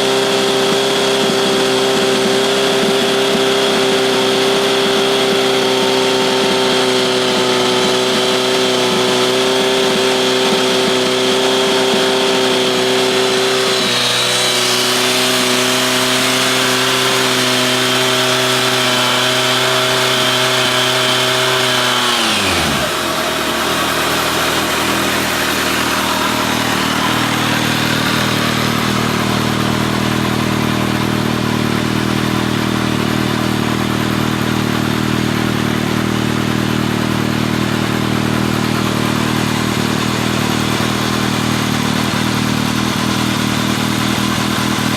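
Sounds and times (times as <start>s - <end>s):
motorcycle engine revving and idling: 0.0s - 44.9s.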